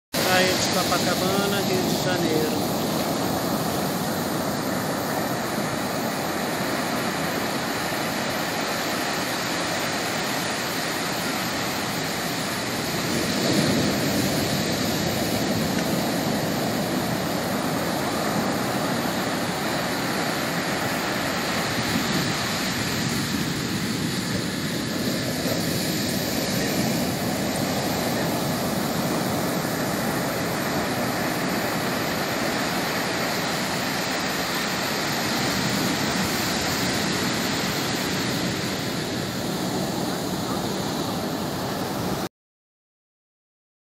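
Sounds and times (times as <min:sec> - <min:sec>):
ocean surf breaking on sand: 0:00.2 - 0:42.3.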